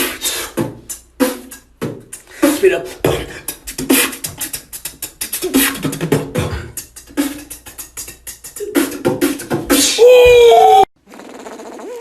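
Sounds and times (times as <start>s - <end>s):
person beatboxing: 0.0s - 12.0s.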